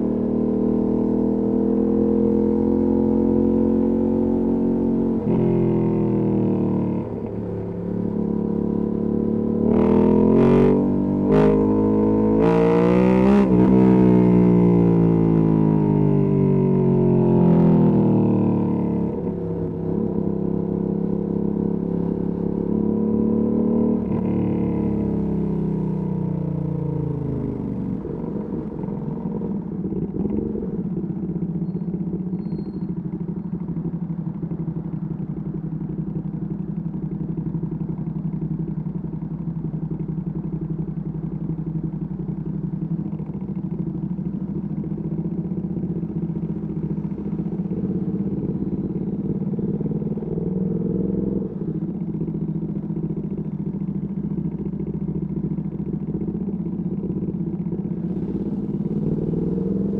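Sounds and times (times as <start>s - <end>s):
motorcycle engine: 0.0s - 59.9s.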